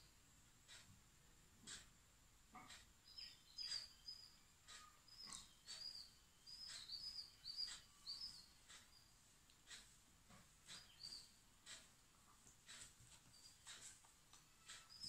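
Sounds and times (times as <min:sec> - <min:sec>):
small birds chirping: 0:02.5 - 0:15.0.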